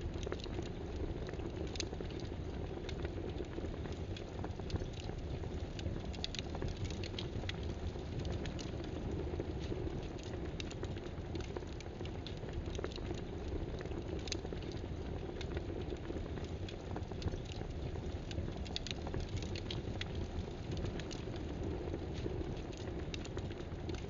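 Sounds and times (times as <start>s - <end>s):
rain-like pattering: 0.0s - 24.0s.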